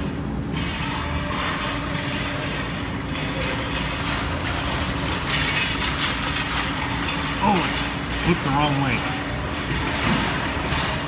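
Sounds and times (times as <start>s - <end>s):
arcade background din: 0.0s - 11.0s.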